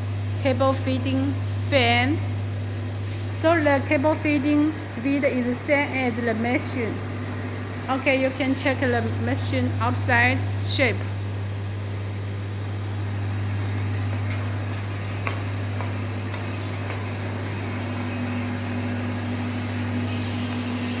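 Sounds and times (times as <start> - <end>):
machine electrical hum: 0.0 - 21.0.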